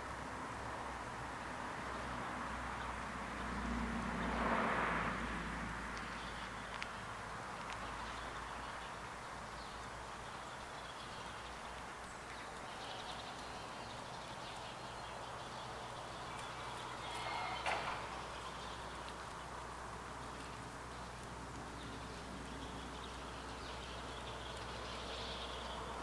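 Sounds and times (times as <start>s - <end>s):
dogs walking past: 3.8s - 26.0s.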